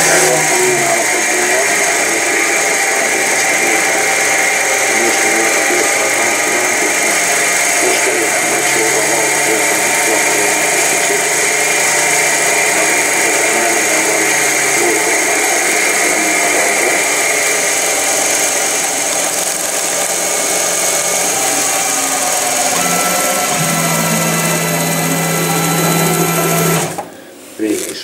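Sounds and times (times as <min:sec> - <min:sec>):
low hum: 0:00.0 - 0:27.0
constant machine whine: 0:00.0 - 0:27.1
higher tone: 0:00.0 - 0:27.1
lathe cutting noise: 0:00.0 - 0:27.1.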